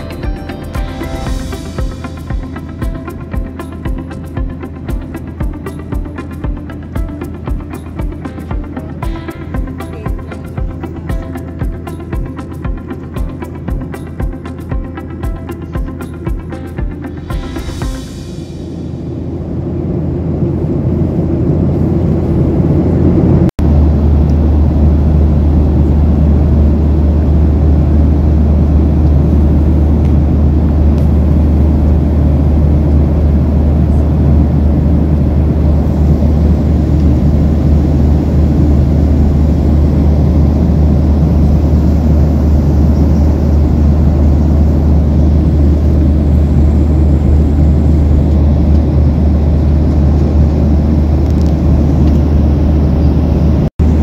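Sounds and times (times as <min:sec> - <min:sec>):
jet cabin engine drone: 0:00.0 - 0:54.0.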